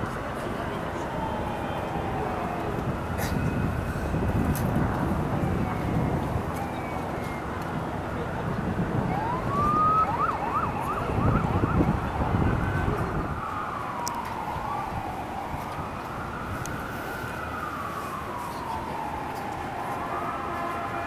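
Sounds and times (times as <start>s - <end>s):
emergency vehicle siren: 0.0s - 21.0s.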